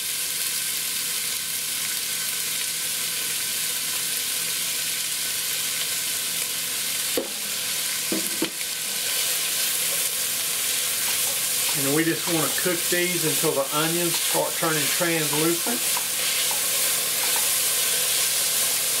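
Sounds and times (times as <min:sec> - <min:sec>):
vegetables sizzling in a pot: 0:00.0 - 0:19.0.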